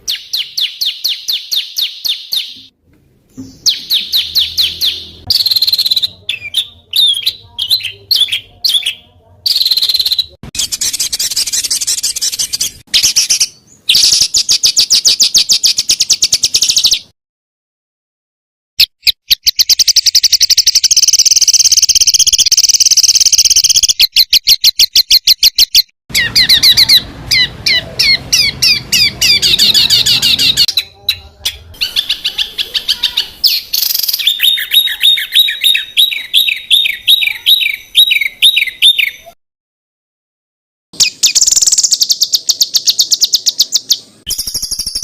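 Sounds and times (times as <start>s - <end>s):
songbirds calling in rapid notes: 0.0s - 2.7s, 3.3s - 17.1s, 18.8s - 39.4s, 41.0s - 45.0s.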